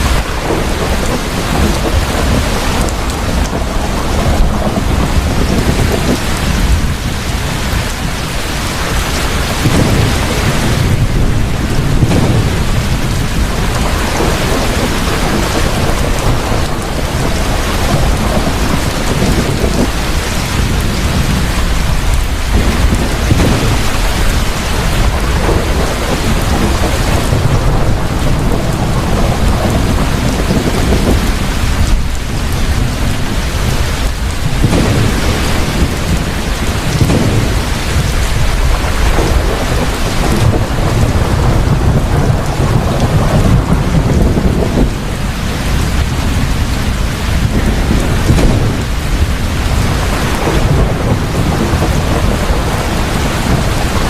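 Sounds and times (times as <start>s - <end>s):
heavy rain: 0.0s - 54.0s
thunder rumbling: 0.0s - 54.0s.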